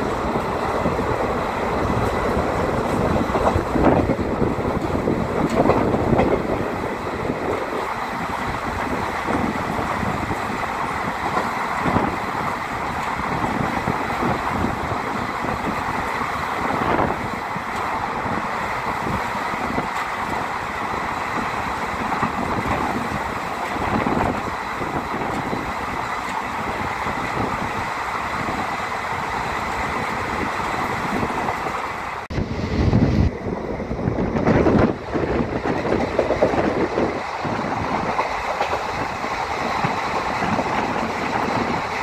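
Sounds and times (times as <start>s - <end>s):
passenger train running: 0.0s - 42.0s.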